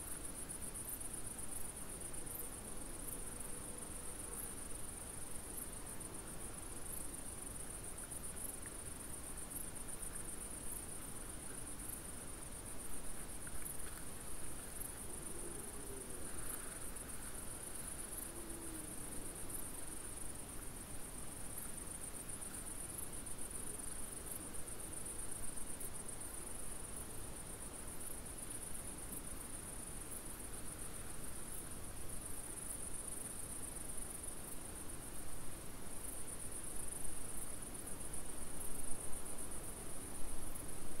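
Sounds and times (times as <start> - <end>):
insects chirring: 0.1 - 35.2.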